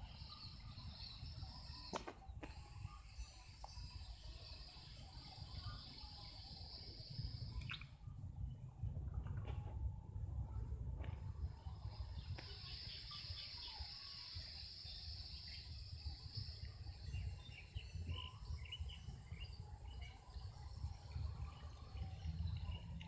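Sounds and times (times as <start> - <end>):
insects trilling: 0.0 - 8.0, 11.6 - 23.0.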